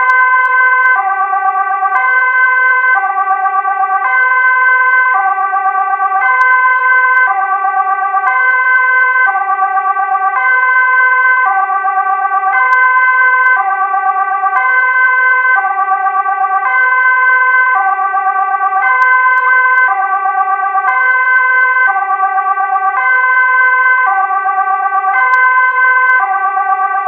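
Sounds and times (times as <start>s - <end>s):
two-tone crossing warning signal: 0.0s - 27.0s.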